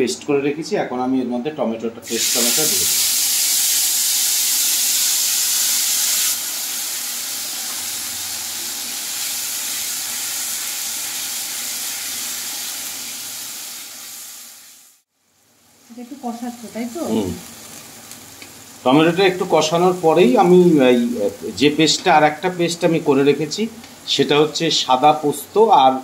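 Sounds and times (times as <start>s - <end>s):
paste sizzling in hot oil: 2.0s - 25.4s.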